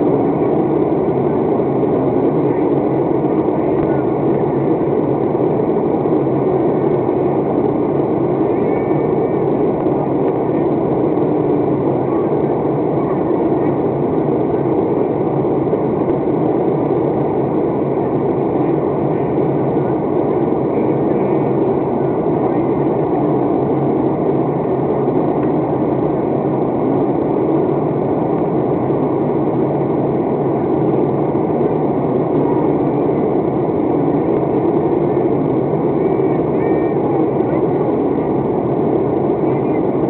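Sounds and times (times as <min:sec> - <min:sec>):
airplane cabin drone: 0:00.0 - 0:40.0.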